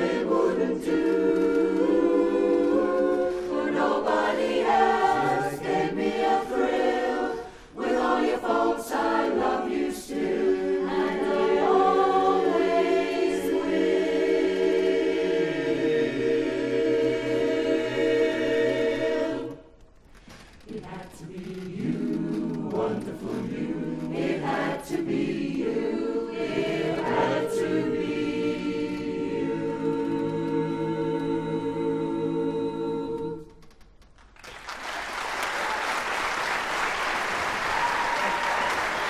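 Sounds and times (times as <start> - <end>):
chorus singing close harmony: 0.0 - 19.6, 20.7 - 33.5.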